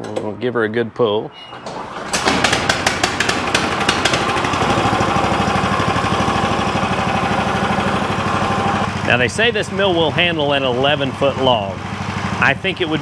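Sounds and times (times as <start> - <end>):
small engine starting and idling: 1.4 - 13.0.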